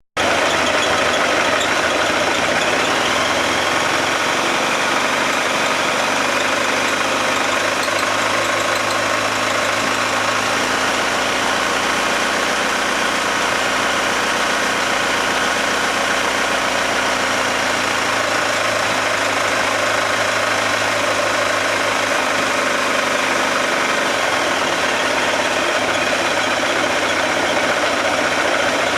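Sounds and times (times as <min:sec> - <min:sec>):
engine running: 0:00.2 - 0:28.9.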